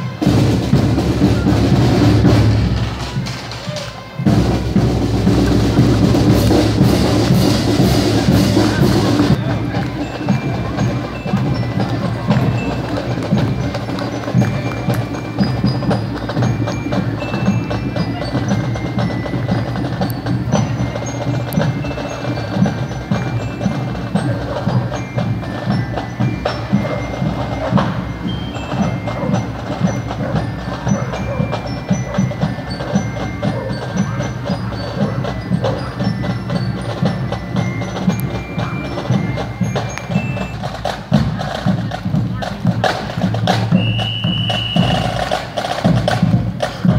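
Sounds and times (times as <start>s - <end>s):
glockenspiel notes: 0.0s - 46.9s
marching band playing: 0.0s - 46.9s
drum and stick clicks: 2.3s - 46.9s.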